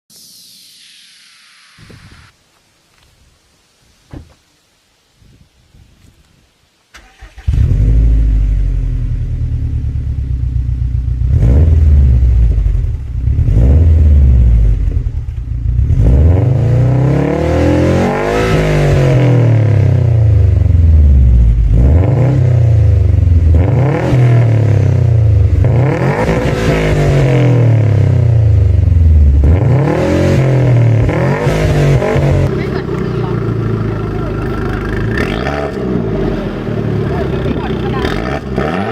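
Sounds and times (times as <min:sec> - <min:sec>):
car engine revving: 0:07.0 - 0:38.9.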